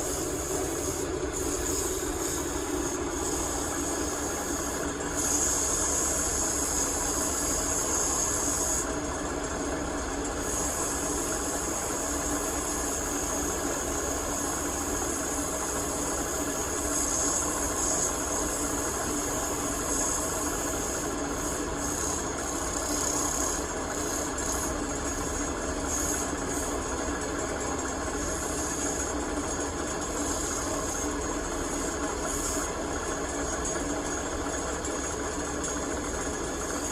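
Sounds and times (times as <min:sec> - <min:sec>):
high hiss of turning wood: 0:00.0 - 0:36.9
wood lathe running: 0:00.0 - 0:36.9.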